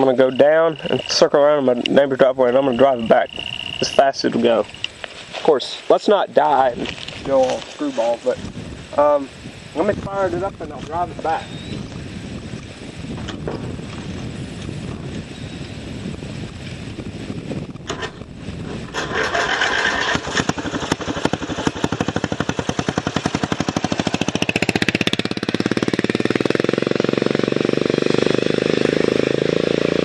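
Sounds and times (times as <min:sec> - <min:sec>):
lawnmower engine running: 0:00.0 - 0:30.0.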